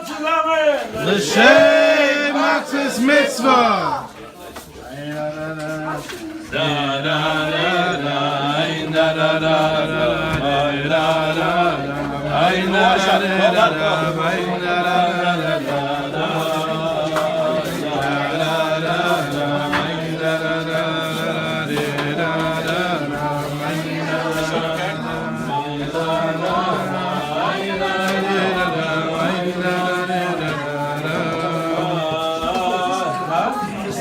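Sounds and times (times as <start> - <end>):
men singing a wordless chant: 0.8 - 34.0.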